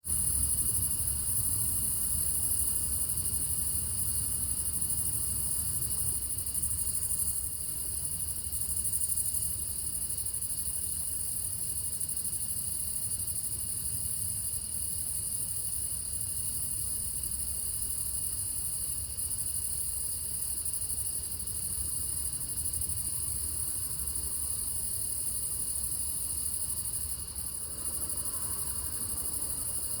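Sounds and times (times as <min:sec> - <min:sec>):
crickets trilling: 0:00.1 - 0:30.0.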